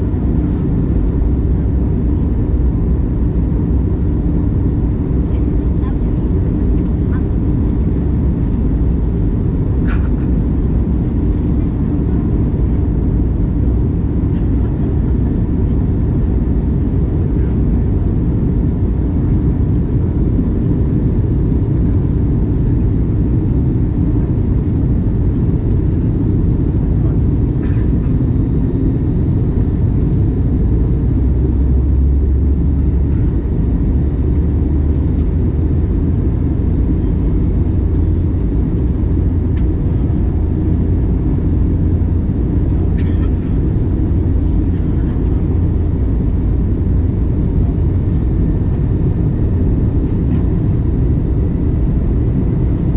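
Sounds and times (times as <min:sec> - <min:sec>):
airplane cabin rumble: 0:00.0 - 0:52.9.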